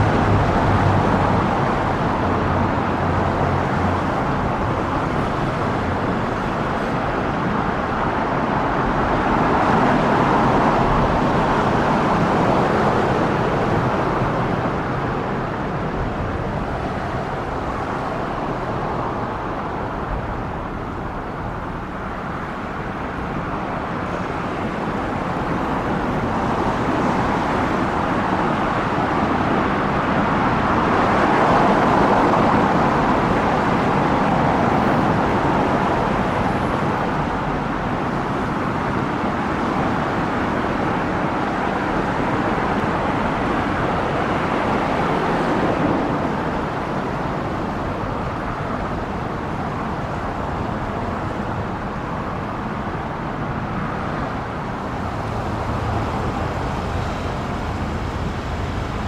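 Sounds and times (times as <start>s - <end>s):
passing cars: 0.0s - 59.0s.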